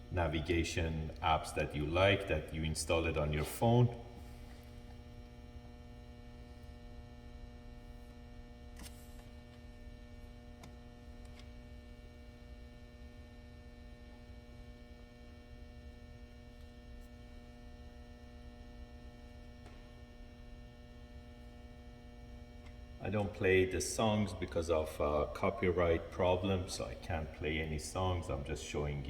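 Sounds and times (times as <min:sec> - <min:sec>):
faint electrical hum: 0:00.0 - 0:29.0.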